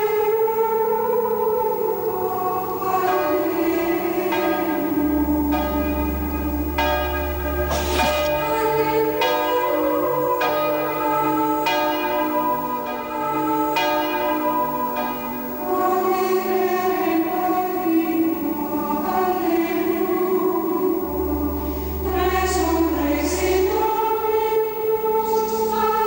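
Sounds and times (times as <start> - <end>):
choir singing: 0.0 - 26.0
church bells ringing: 0.0 - 26.0.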